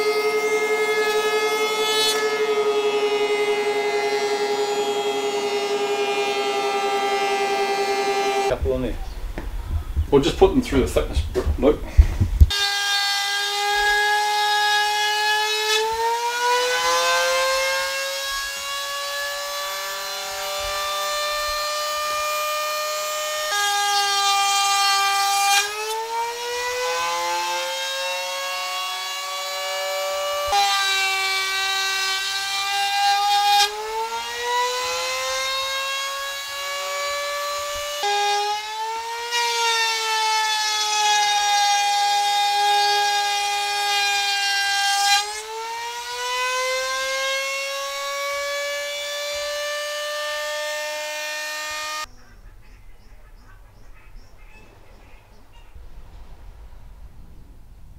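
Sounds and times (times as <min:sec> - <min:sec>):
power tool motor whining: 0:00.0 - 0:10.5, 0:11.6 - 0:52.1.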